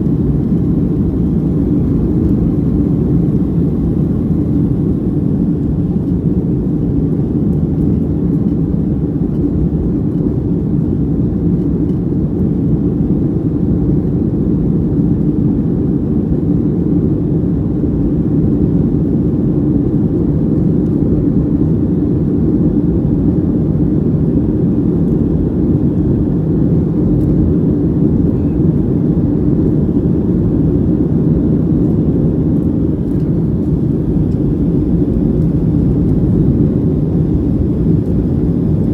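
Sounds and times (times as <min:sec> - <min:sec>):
jet engines and rushing air: 0:00.0 - 0:38.9.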